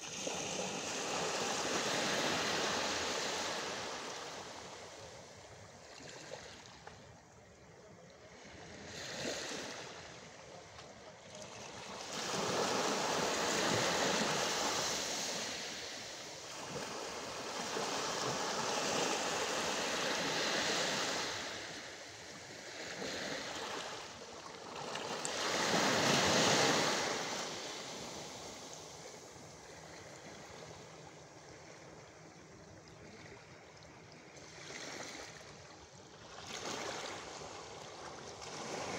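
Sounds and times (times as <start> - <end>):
small waves washing on shore: 0.0 - 38.9.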